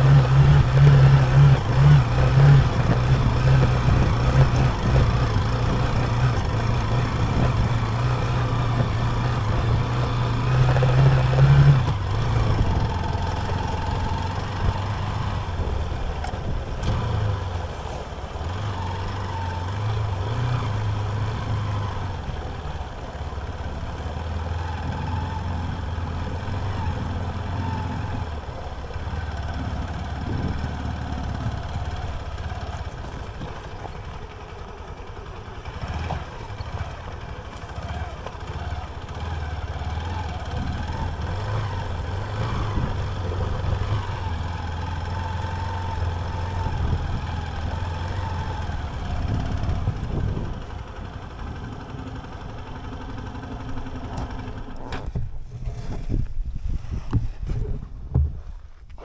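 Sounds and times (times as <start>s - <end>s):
motorcycle engine running at low revs: 0.0s - 59.0s.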